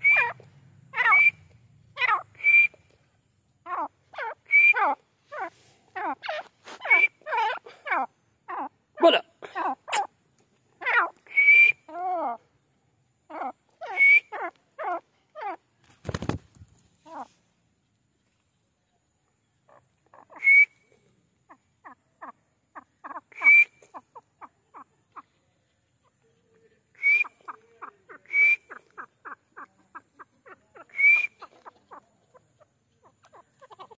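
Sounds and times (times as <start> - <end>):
francolin calling: 0.0 - 16.3, 19.4 - 34.0.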